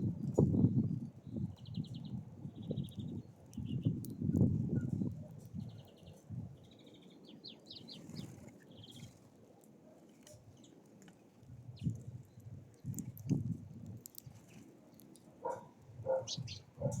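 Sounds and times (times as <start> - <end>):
small songbirds calling: 0.1 - 9.4, 10.0 - 11.0, 11.6 - 17.0.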